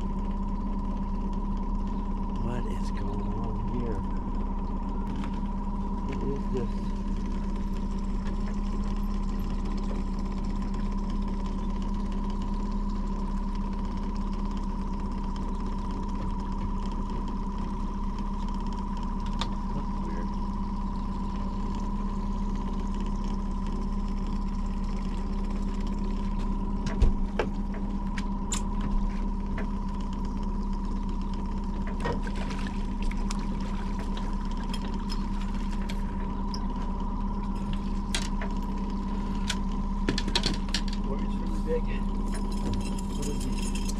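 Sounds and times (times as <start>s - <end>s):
outboard motor humming: 0.0s - 43.9s
water lapping at hull: 0.0s - 43.9s.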